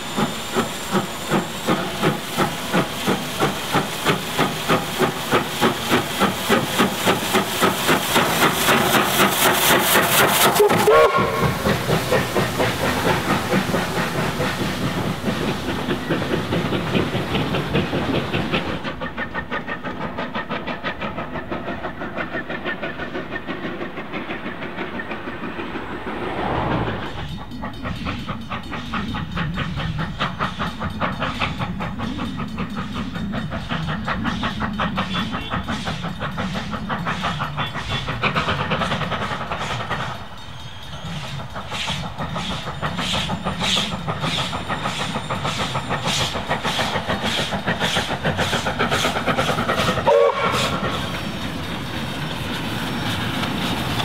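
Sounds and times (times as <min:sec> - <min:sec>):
steam hissing: 0:00.0 - 0:54.0
steam locomotive exhaust beating: 0:00.0 - 0:54.0.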